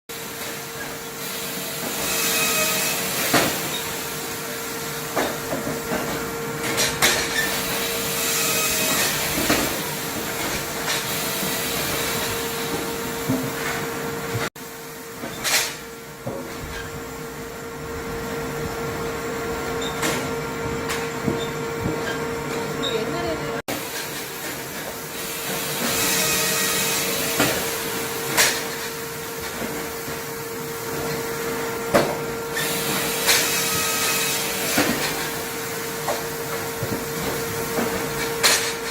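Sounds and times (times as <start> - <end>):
firewood machinery humming and whining: 0.2 - 38.9.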